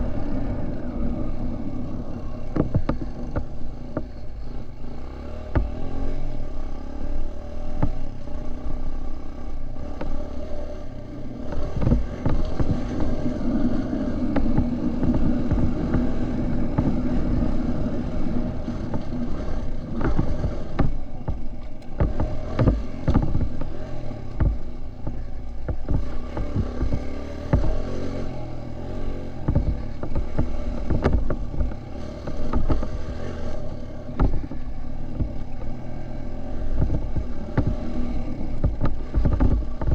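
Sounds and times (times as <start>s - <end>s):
bike clattering over rough ground: 0.0s - 39.9s
dirt bike engine revving: 0.0s - 39.9s.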